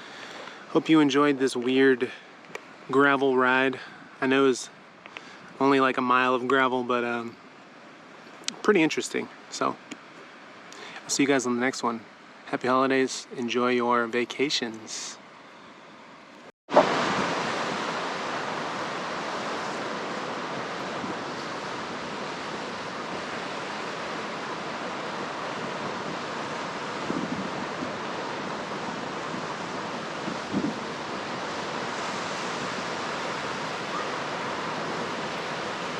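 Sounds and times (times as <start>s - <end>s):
ocean surf washing ashore: 0.0s - 15.2s, 16.7s - 35.9s.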